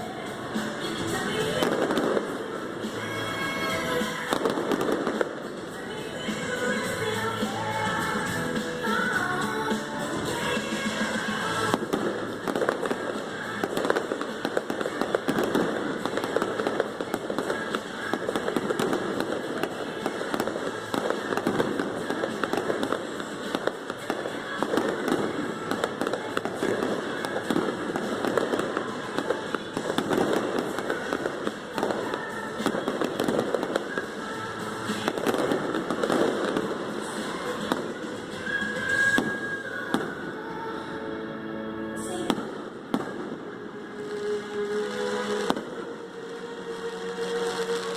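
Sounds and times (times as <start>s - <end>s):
fireworks bangs and crackling: 0.0s - 40.4s, 42.2s - 47.9s
pop music playing: 0.0s - 43.1s.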